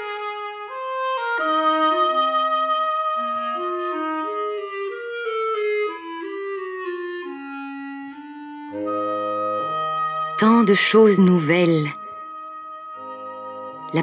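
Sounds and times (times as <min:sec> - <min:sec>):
orchestral film music: 0:00.4 - 0:14.0.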